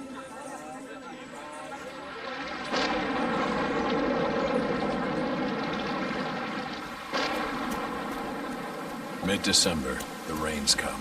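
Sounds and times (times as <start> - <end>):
engine droning: 2.1 - 11.0.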